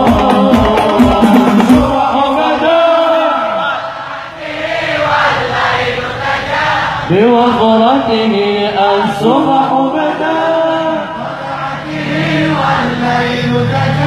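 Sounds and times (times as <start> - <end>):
men chanting devotional melody: 0.0 - 14.0.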